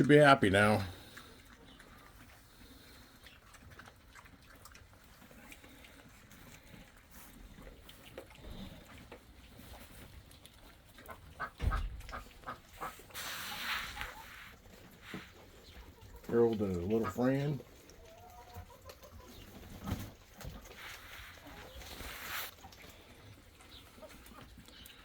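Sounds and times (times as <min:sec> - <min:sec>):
farm animals calling: 0:00.0 - 0:25.0.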